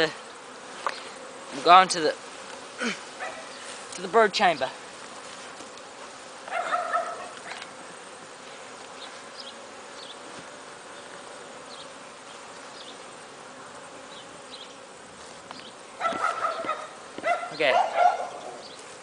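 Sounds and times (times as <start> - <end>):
honeybee colony buzzing: 0.0 - 19.0.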